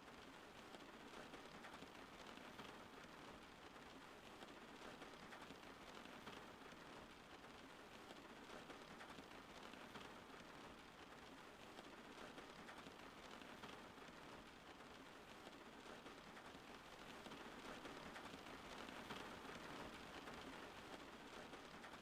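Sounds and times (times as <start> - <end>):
soft rain patter: 0.0 - 22.0.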